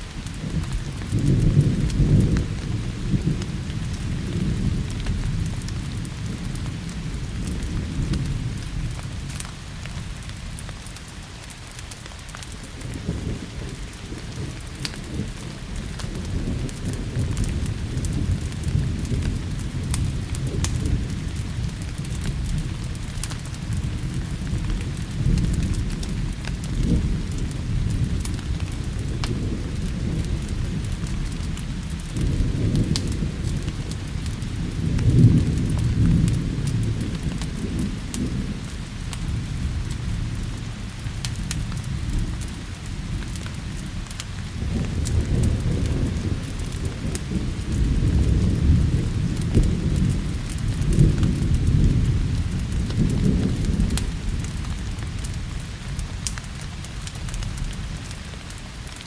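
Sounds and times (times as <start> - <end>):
low rolling thunder: 0.0 - 11.9, 12.5 - 58.7
steady rain: 0.0 - 59.0
wood fire crackling: 0.0 - 59.0.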